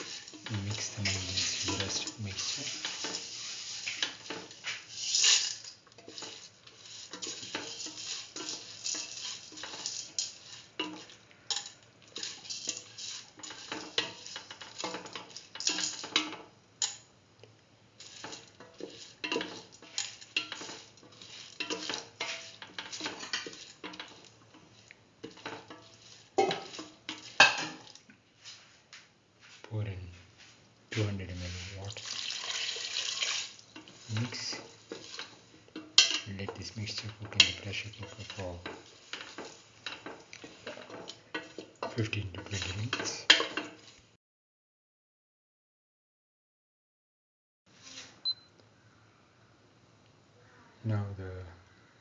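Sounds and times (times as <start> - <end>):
spatula scraping a pan: 0.0 - 17.1, 18.0 - 28.8, 30.5 - 44.1, 47.8 - 48.2
faint sizzle: 0.0 - 44.2, 47.7 - 52.0.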